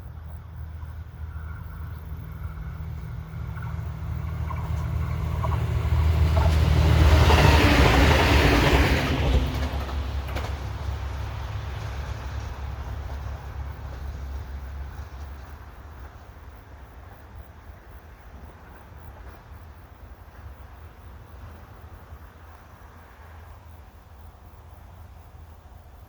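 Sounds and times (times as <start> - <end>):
diesel railcar running away: 0.0 - 26.0.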